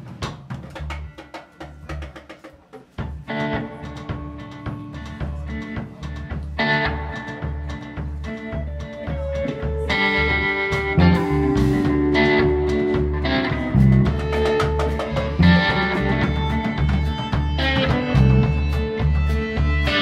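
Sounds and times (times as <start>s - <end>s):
drum kit: 0.0s - 20.0s
bass guitar line: 3.0s - 20.0s
electric guitars: 3.0s - 20.0s.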